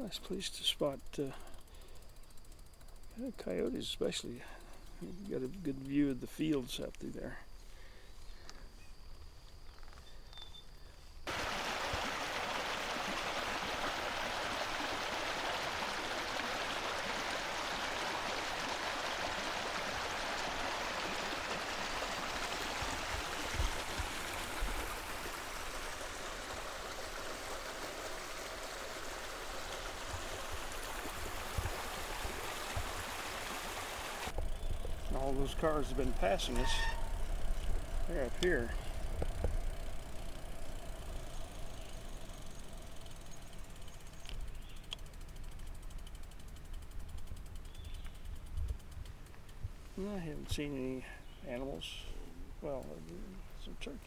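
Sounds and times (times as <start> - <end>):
steady rushing hiss: 0.0 - 9.7, 10.9 - 54.0.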